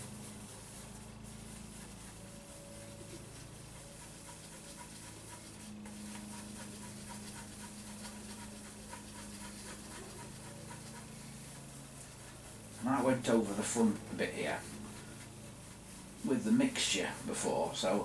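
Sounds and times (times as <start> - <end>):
cloth rubbing on plastic: 0.0 - 18.0
steady low hum: 0.0 - 18.0.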